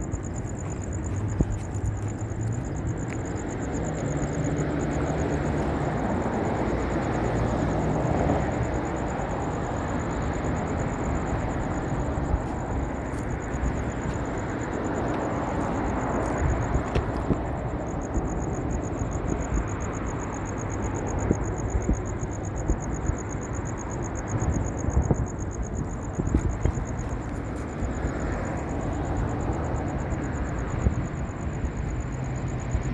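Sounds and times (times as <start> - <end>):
distant traffic rumble: 0.0 - 32.9.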